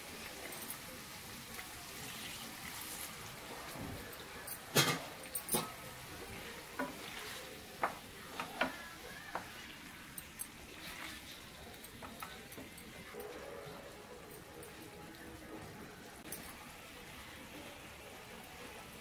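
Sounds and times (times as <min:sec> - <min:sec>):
low sizzle: 0:00.0 - 0:19.0.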